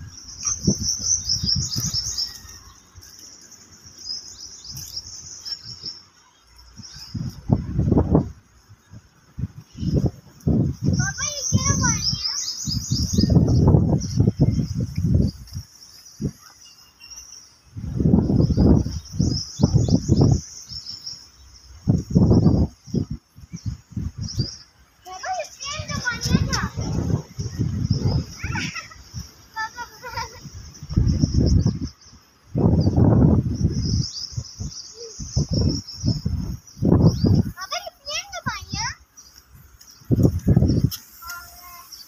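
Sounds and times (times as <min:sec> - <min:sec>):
high-pitched chirping: 0:00.0 - 0:07.6, 0:10.8 - 0:42.0.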